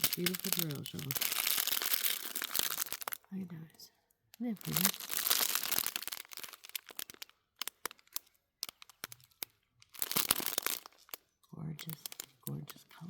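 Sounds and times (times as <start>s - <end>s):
plastic bags crinkling: 0.0s - 3.3s, 4.4s - 11.2s, 11.8s - 13.0s.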